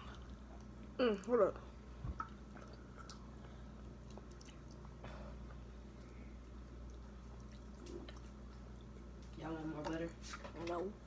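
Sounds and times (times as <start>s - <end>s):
people chewing: 0.0s - 1.4s, 2.0s - 10.8s
steady low hum: 0.0s - 11.0s.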